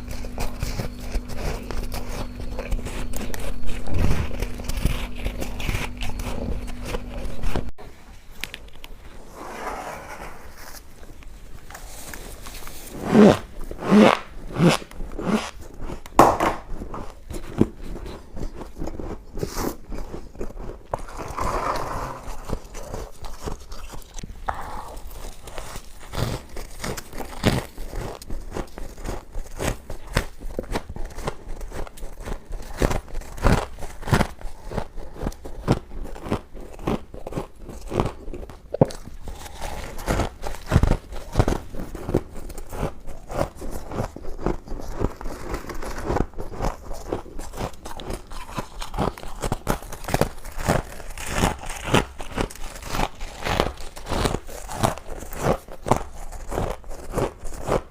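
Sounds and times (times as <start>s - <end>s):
chewing crunchy ice: 0.0s - 7.7s, 11.8s - 57.9s.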